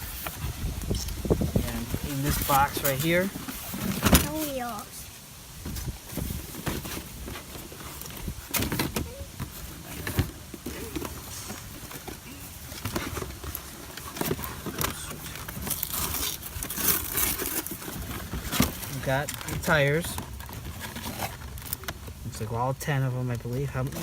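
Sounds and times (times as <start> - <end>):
plastic bags and cardboard rustling: 0.0 - 24.0.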